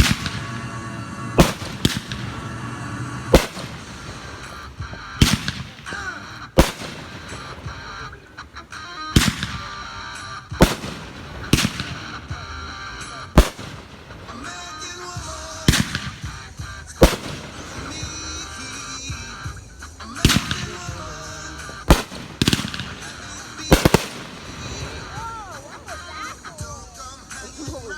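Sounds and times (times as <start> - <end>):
fireworks bangs: 0.0 - 27.9.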